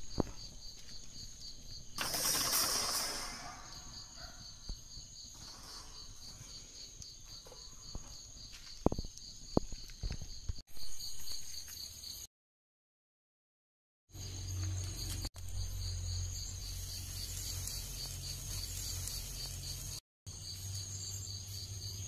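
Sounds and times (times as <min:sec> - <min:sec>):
crickets chirping: 0:00.0 - 0:12.3, 0:14.2 - 0:22.0.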